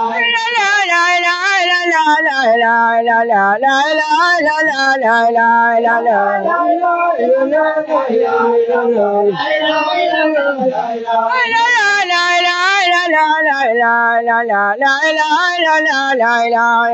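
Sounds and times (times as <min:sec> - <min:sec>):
man chanting into a microphone: 0:00.0 - 0:16.9.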